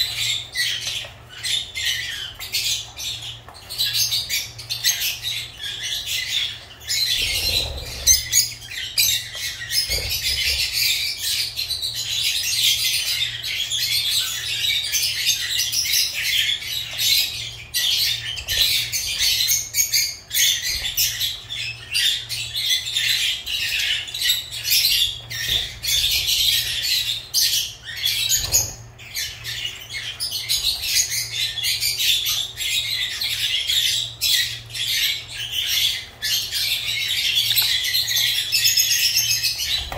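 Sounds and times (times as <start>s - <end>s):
lovebirds chattering and squawking: 0.0s - 39.9s.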